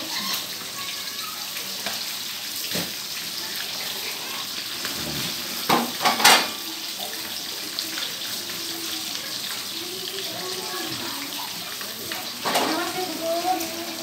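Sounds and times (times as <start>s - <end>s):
fish deep-frying in oil: 0.0s - 14.0s.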